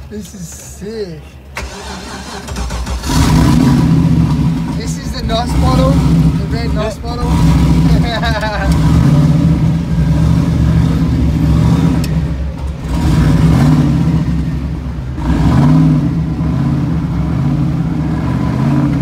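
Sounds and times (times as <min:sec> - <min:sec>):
car engine revving: 0:01.6 - 0:19.0.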